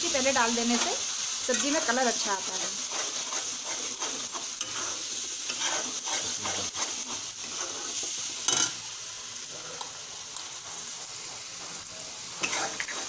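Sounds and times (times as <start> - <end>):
masala paste sizzling in hot oil: 0.0 - 13.0
spatula stirring and scraping: 0.5 - 8.8, 9.6 - 13.0.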